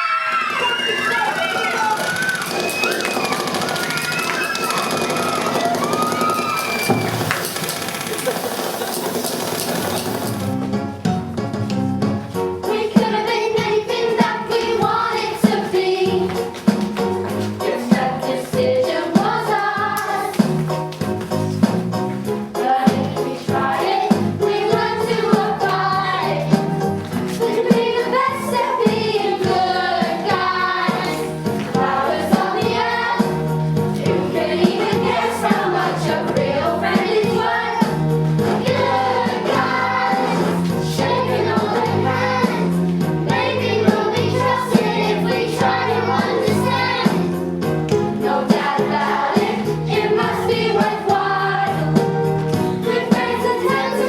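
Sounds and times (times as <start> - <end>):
chorus singing: 0.0 - 7.6, 12.6 - 20.6, 22.6 - 54.0
instrumental accompaniment with beat: 0.6 - 54.0.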